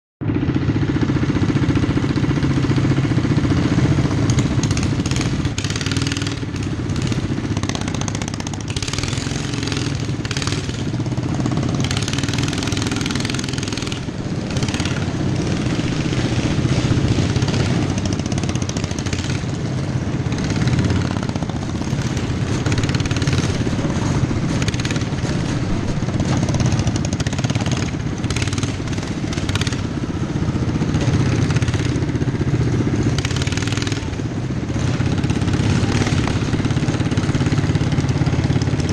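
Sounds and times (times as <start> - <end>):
lawnmower engines running: 0.2 - 38.9.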